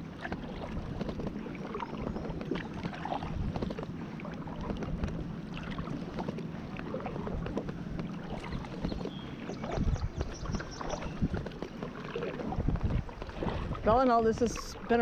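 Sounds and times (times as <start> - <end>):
kayak paddle strokes in water: 0.0 - 15.0
wind on microphone: 0.0 - 15.0.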